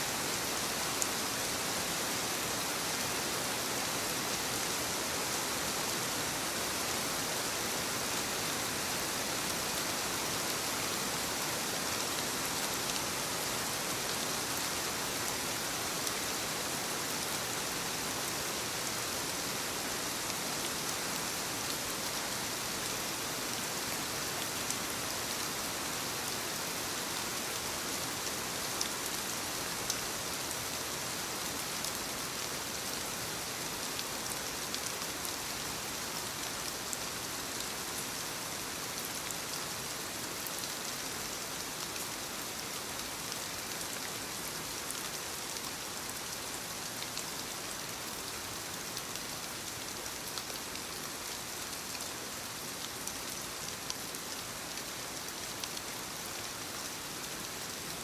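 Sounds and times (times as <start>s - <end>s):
soft rain on leaves: 0.0s - 58.0s.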